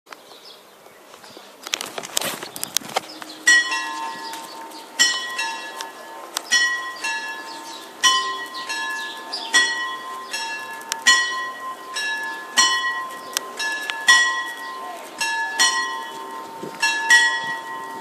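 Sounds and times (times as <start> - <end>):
level-crossing bells ringing: 3.2 - 18.0.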